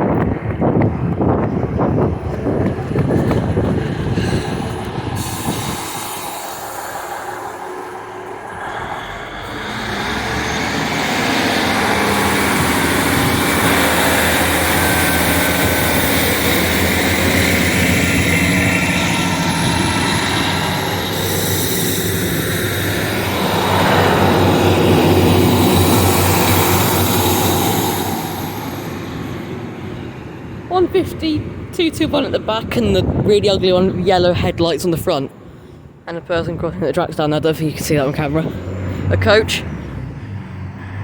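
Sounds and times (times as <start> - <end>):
diesel train engine throb: 0.0 - 34.6, 35.3 - 41.0
wheel and rail noise: 0.0 - 34.6.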